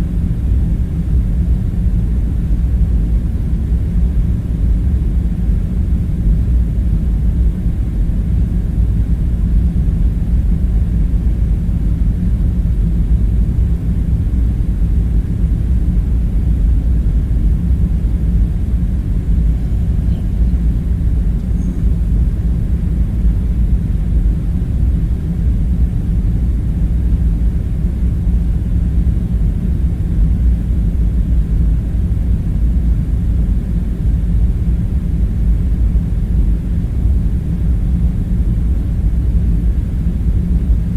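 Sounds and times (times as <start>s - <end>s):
faint hum: 0.0s - 40.9s
low rumbling drone: 0.0s - 40.9s.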